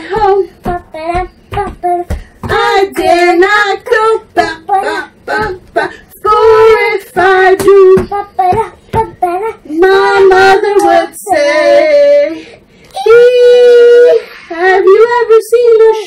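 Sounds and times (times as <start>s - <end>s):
girl and woman singing together: 0.0s - 16.0s.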